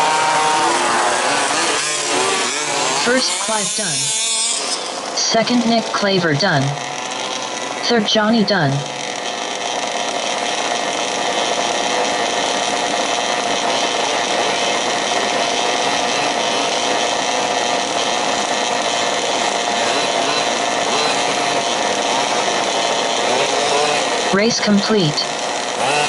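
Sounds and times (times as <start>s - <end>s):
small two-stroke engines droning: 0.0s - 26.0s.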